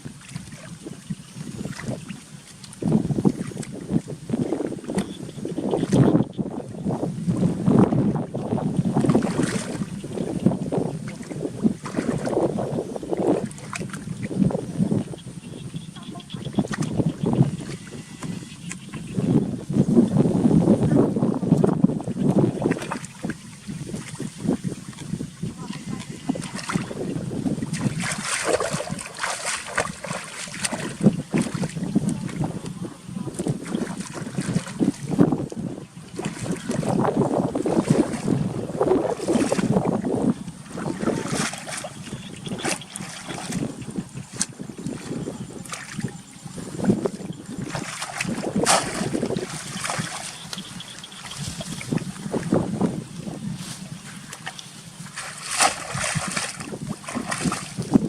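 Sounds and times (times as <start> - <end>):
water splashing and sloshing: 0.0 - 58.0
wind buffeting microphone: 0.0 - 58.0.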